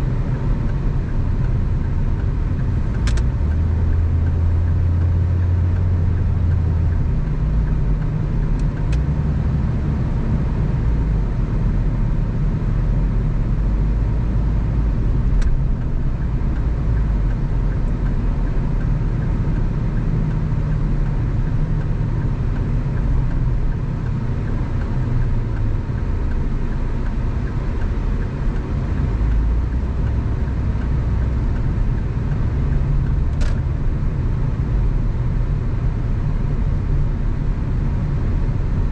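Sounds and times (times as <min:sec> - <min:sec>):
car engine hum: 0:00.0 - 0:38.9
tyre and road noise: 0:00.0 - 0:38.9.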